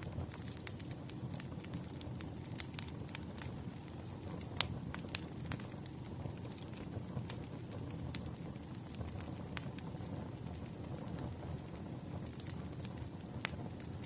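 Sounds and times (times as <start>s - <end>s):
logs crackling and popping: 0.0s - 14.0s
wood fire burning: 0.0s - 14.0s.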